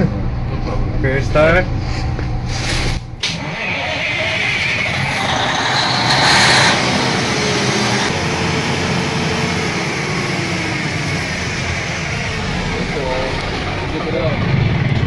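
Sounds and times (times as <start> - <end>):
diesel generator engine running: 0.0 - 15.0.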